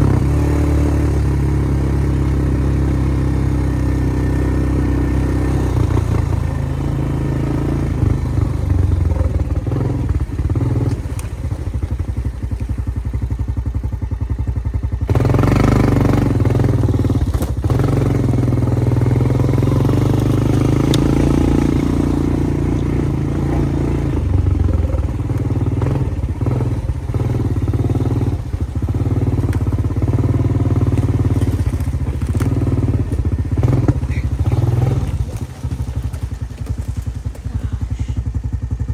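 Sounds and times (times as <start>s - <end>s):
small vehicle engine driving: 0.0s - 38.9s.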